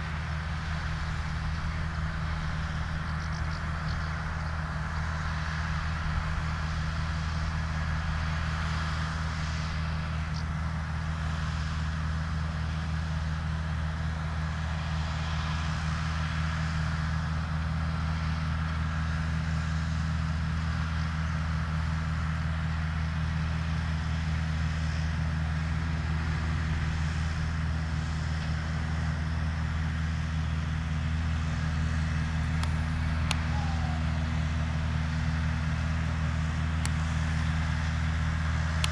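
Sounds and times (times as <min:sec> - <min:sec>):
tractor engines droning: 0:00.0 - 0:38.9.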